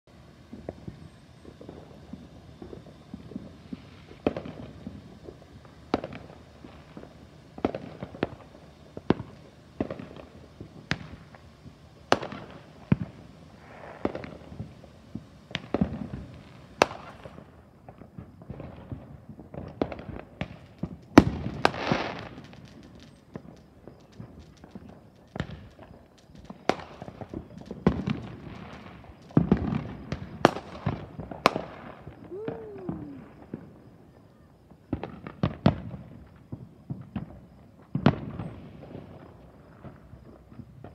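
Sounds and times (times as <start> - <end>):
fireworks bangs and pops: 0.2 - 40.9.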